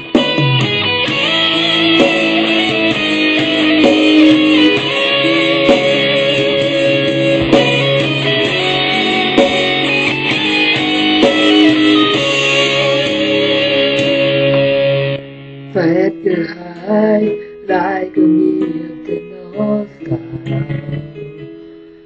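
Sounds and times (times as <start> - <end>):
instrumental music with steady beat: 0.0 - 22.0.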